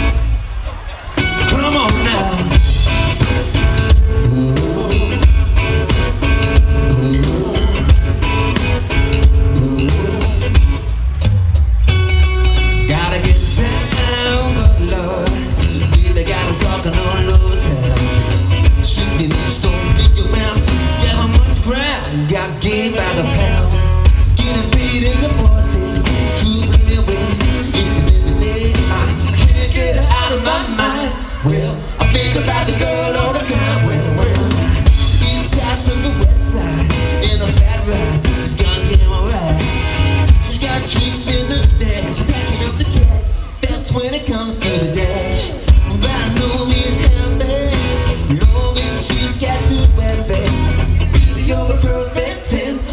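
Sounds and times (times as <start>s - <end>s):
bass guitar: 0.0s - 52.9s
guitar: 0.0s - 52.9s
live rock band playing: 0.0s - 52.9s
person singing: 1.2s - 10.9s, 12.8s - 52.9s.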